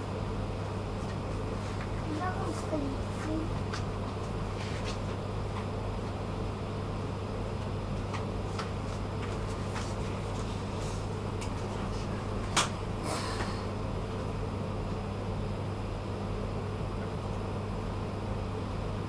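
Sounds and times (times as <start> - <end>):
ventilation hum: 0.0 - 19.0.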